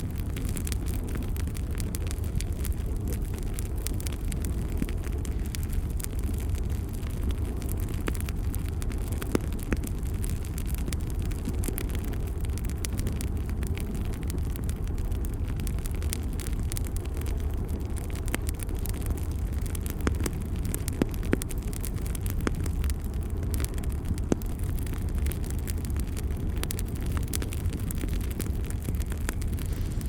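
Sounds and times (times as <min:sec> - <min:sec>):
bonfire flames rumbling: 0:00.0 - 0:30.0
fire crackling and popping: 0:00.0 - 0:30.0.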